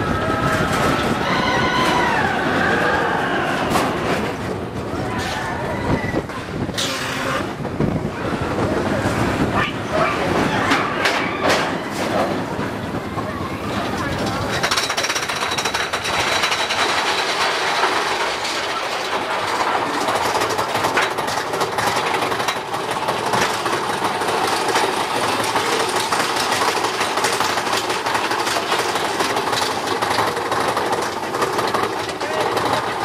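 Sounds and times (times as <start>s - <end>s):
roller coaster wheels clattering on rails: 0.0s - 33.0s.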